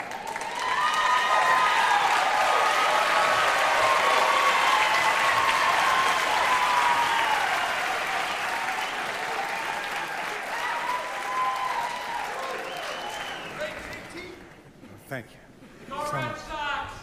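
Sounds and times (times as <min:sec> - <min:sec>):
crowd applauding: 0:00.0 - 0:14.6.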